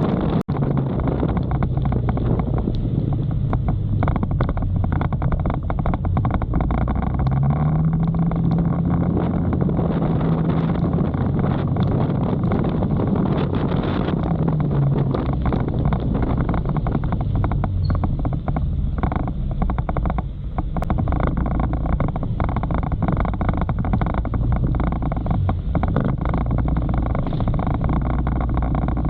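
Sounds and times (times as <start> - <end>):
motorcycle engine drone: 0.0 - 29.0
wind buffeting microphone: 0.0 - 29.0.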